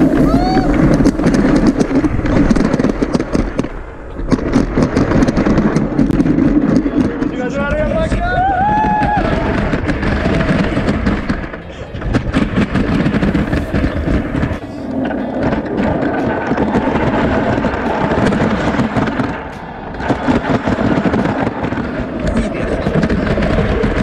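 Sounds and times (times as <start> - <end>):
wheels rattling on wooden track: 0.0 - 24.0
wind buffeting microphone: 0.0 - 24.0.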